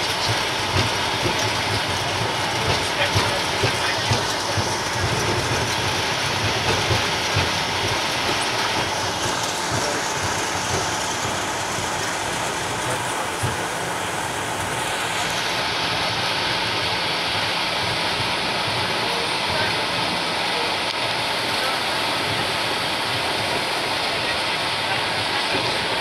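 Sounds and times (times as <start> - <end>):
jet wheels and engines rumbling: 0.0 - 26.0.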